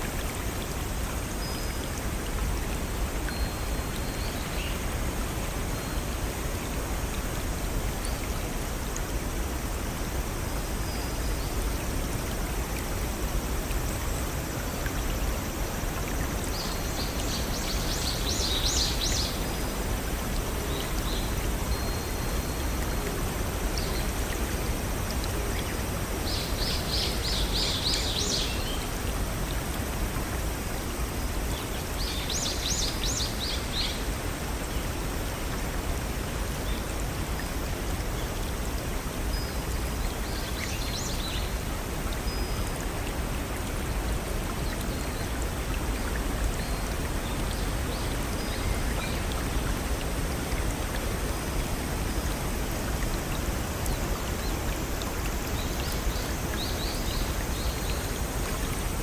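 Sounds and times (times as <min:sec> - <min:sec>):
forest stream rushing: 0:00.0 - 0:59.0.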